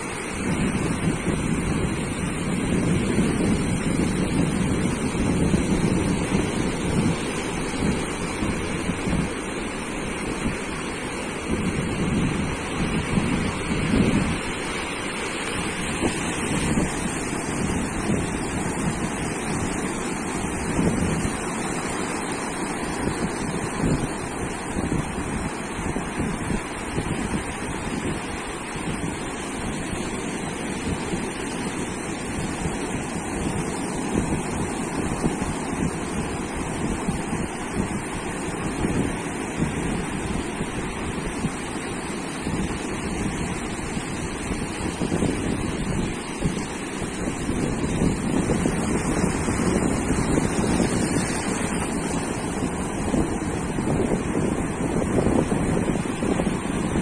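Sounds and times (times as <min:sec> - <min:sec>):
ocean waves breaking on beach: 0:00.0 - 0:57.0
wind buffeting microphone: 0:00.0 - 0:57.0.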